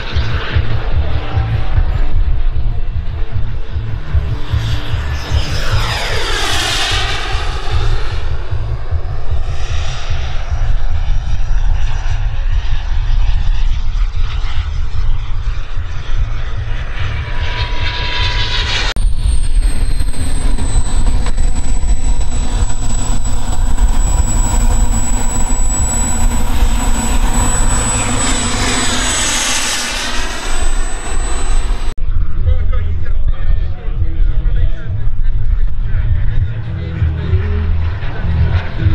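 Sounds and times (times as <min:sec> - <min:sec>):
jet turbine whine: 0:00.0 - 0:32.0
low rumble: 0:00.0 - 0:38.9.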